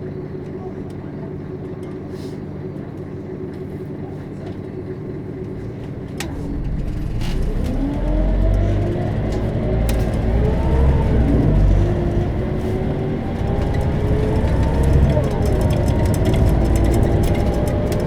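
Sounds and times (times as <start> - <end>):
bus engine accelerating: 0.0 - 18.0.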